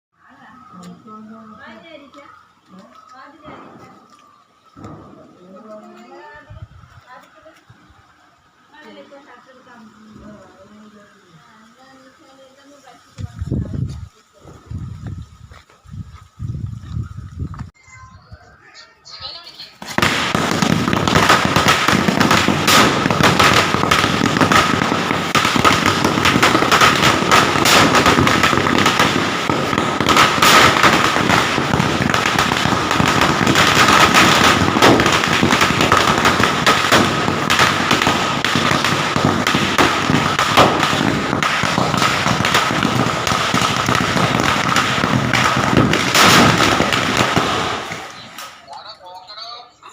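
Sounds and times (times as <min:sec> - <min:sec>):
firecrackers crackling: 0:00.2 - 0:17.8, 0:19.1 - 0:49.9.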